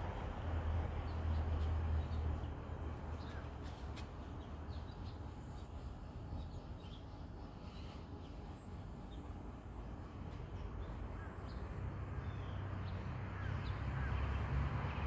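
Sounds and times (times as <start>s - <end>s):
passing traffic rumble: 0.0s - 6.7s, 7.4s - 15.0s.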